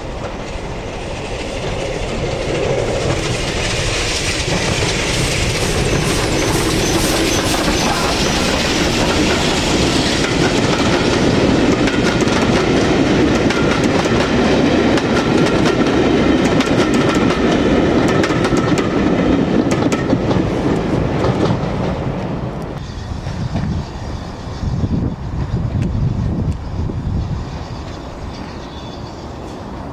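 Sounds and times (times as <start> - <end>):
train wheels clattering on rails: 0.0 - 29.9.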